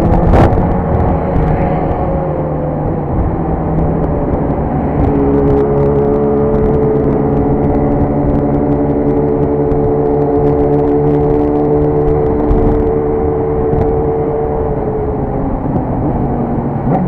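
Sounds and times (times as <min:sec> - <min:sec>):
motorcycle engine at highway speed: 0:00.0 - 0:17.0
wind rush: 0:00.0 - 0:17.0.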